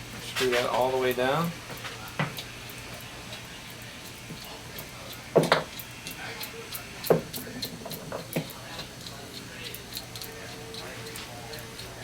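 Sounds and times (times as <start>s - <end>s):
metallic clicking and ticking: 2.4s - 12.0s.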